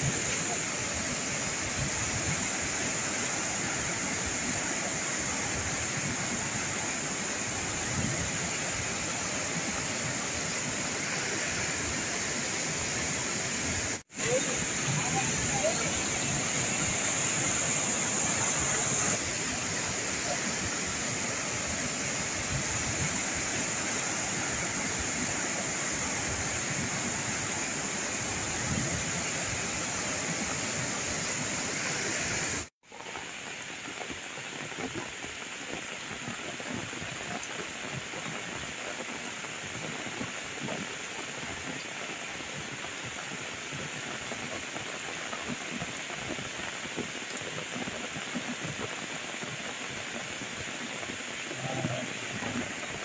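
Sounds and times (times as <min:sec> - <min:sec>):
floodwater rushing down cascade: 0:00.0 - 0:53.0.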